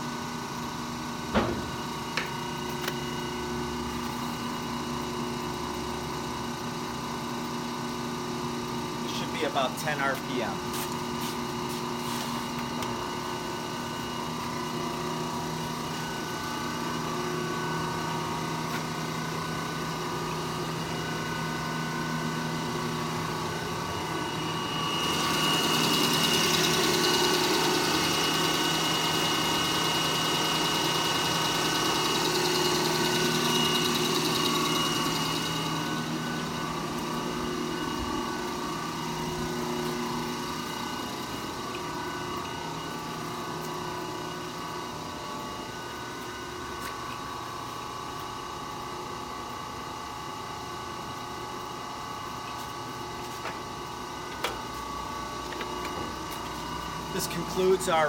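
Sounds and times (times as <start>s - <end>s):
lathe motor humming: 0.0s - 49.6s, 50.8s - 58.0s.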